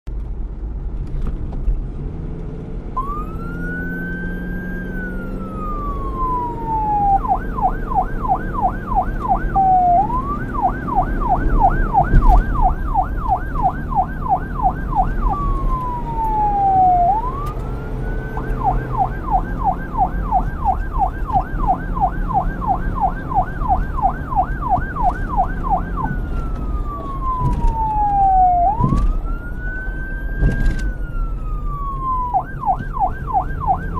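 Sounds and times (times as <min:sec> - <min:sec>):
low traffic rumble: 0:00.1 - 0:33.9
police siren wailing and yelping: 0:03.0 - 0:33.9.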